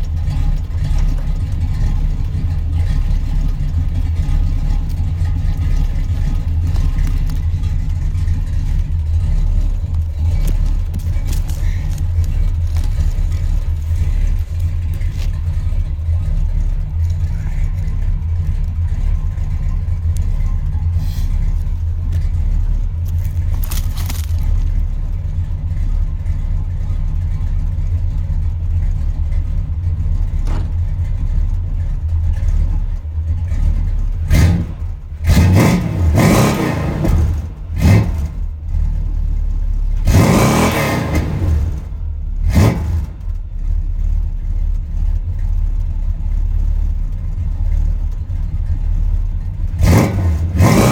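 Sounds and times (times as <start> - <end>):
car engine idling: 0.0 - 50.9
engine throttle blips: 0.0 - 50.9.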